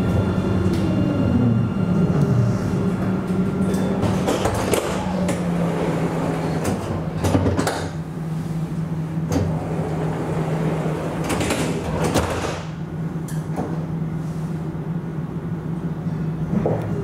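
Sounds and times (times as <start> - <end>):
steady electric tram hum: 0.0 - 17.0.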